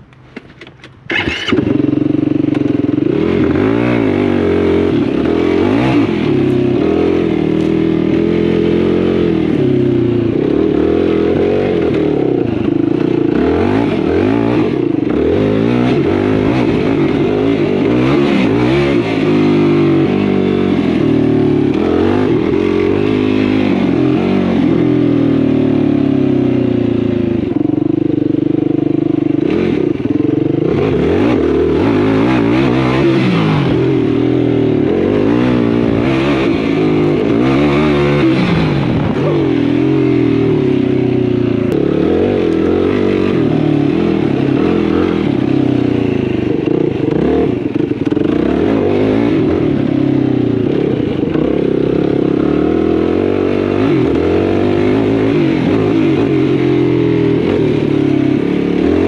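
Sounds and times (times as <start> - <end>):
quad engine revving: 1.1 - 59.0.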